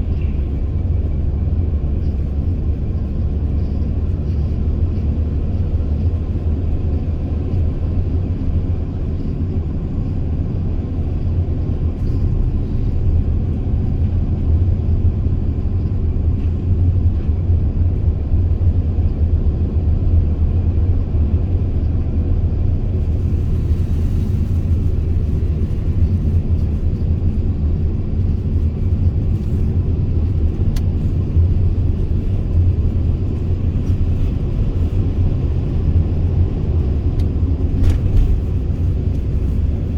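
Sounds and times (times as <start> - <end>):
van engine and road noise: 0.0 - 39.9.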